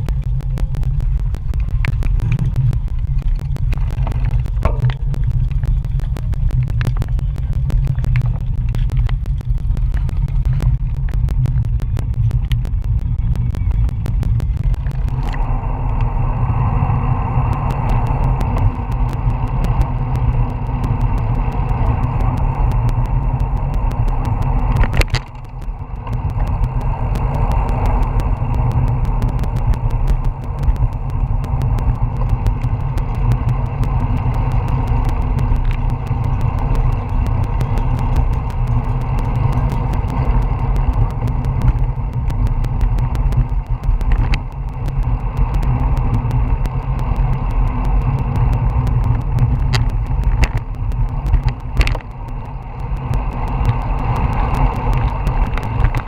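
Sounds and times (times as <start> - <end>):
road and tyre noise: 0.0 - 56.0.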